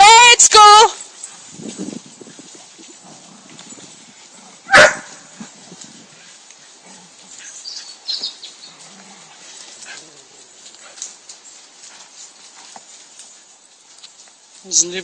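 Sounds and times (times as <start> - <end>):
footsteps through leaves: 0.7 - 15.0.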